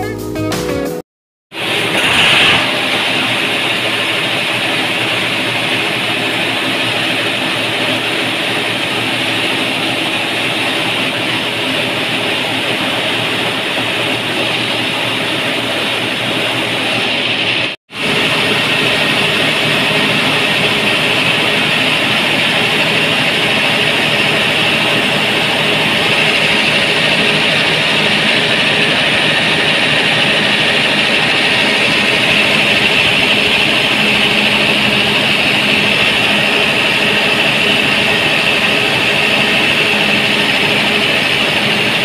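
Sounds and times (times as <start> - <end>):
diesel engine running: 1.6 - 42.0.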